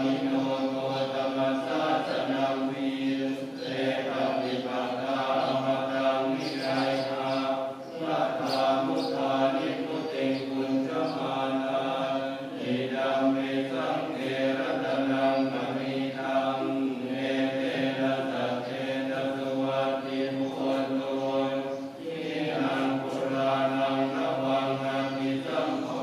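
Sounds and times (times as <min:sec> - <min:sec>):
voices chanting: 0:00.0 - 0:26.0.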